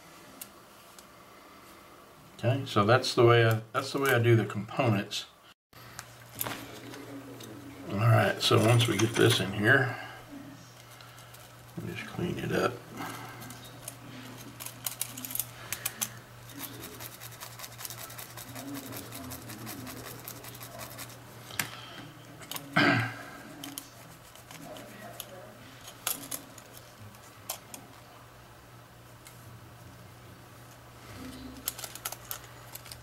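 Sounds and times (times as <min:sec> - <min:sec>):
steady low hum: 0:05.3 - 0:33.0.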